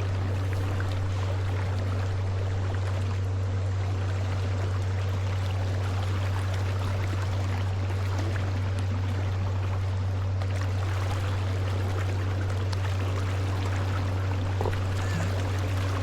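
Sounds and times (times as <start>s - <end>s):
loud low hum: 0.0s - 16.0s
water trickling and splashing: 0.0s - 16.0s.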